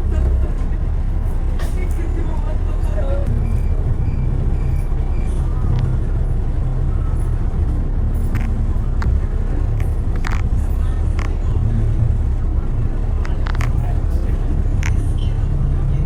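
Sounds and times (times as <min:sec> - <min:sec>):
rumble of passing vehicles: 0:00.0 - 0:16.0.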